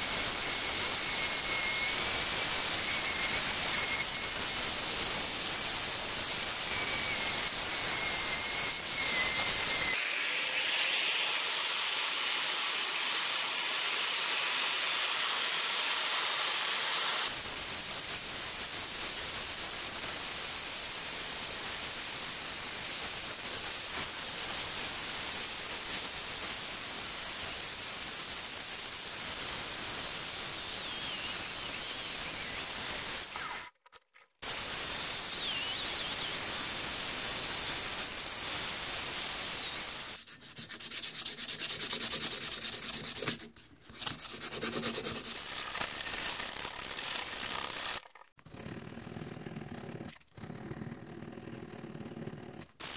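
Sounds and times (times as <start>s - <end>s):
angle grinder grinding steel: 0.0s - 33.7s, 34.4s - 40.2s, 44.4s - 48.3s
rotary tool grinding steel: 0.0s - 33.8s, 34.4s - 51.4s, 52.0s - 52.9s.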